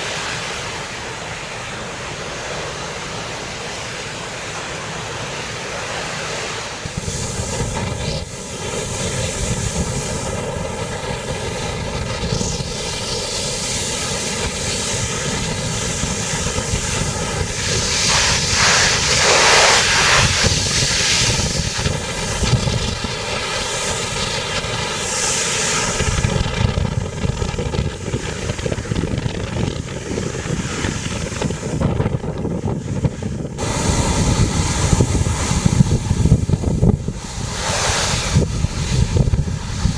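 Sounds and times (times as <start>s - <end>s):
ferry engine drone: 0.0s - 39.9s
wind rushing over microphone: 0.0s - 39.9s.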